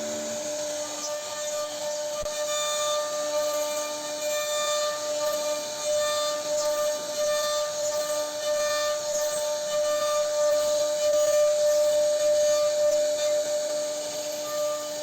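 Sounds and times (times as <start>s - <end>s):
bit cutting wood hiss: 0.0s - 15.0s
router spindle whining: 0.0s - 15.0s.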